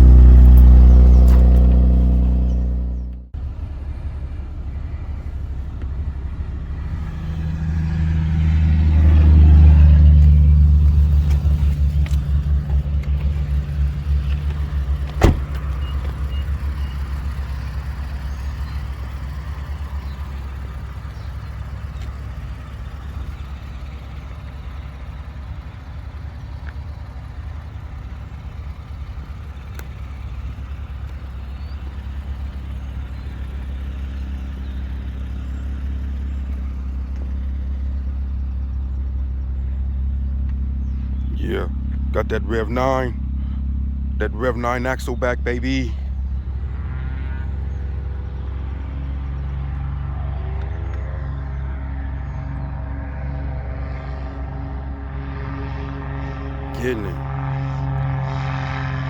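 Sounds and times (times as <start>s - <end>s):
car engine low drone: 0.0s - 59.0s.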